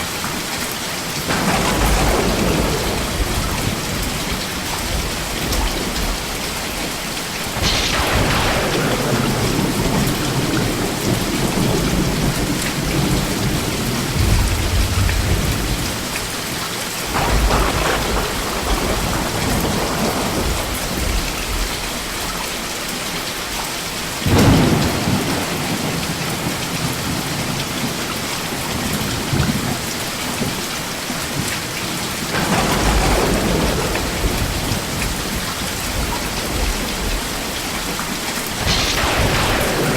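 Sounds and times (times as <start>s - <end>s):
heavy rain: 0.0s - 39.9s
thunder claps rumbling: 1.2s - 22.5s, 24.2s - 29.8s, 31.3s - 39.9s.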